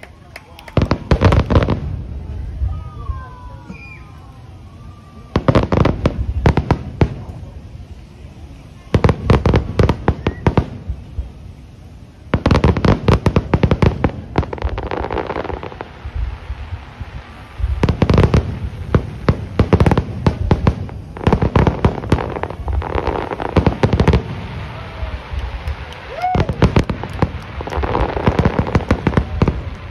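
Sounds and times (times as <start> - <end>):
fireworks bangs: 0.0 - 4.3, 5.0 - 29.9
rumble of blasts: 0.0 - 29.9.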